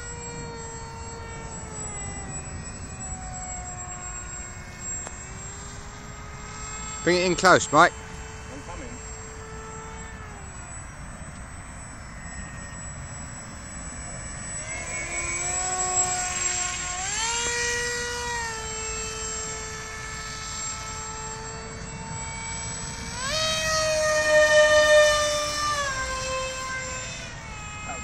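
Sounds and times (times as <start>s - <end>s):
model plane motor whining: 0.0s - 28.0s.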